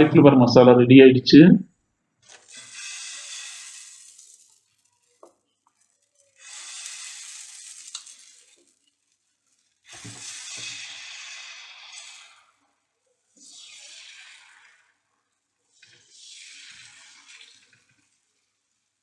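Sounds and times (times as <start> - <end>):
sizzling on a hot griddle: 2.2 - 19.0.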